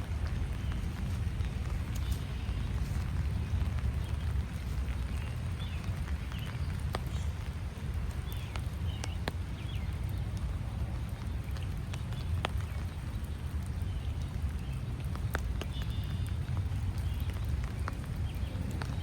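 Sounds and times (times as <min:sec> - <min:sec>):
rain drops ticking: 0:00.0 - 0:19.0.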